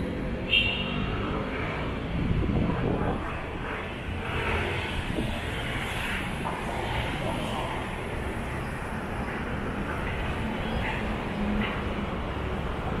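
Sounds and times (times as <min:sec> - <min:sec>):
rumbling city background noise: 0:00.0 - 0:13.0.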